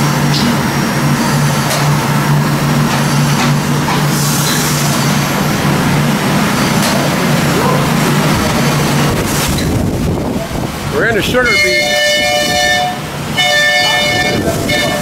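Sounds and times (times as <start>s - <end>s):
steam engine machinery hum: 0.0s - 15.0s.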